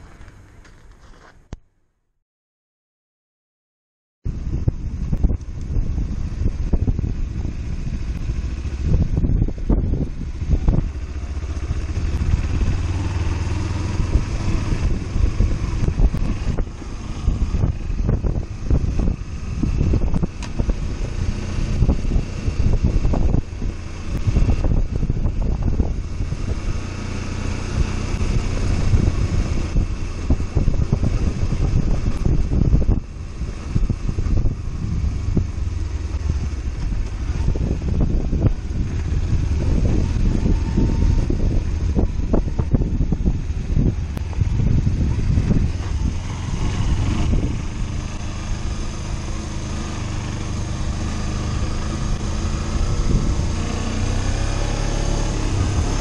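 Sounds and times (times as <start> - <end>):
motorcycle engine running: 4.3 - 56.0.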